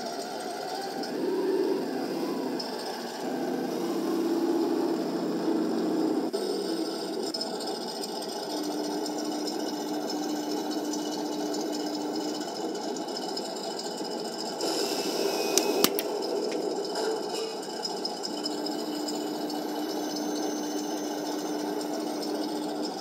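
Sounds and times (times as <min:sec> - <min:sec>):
toy tank electric motors whining: 0:00.0 - 0:23.0.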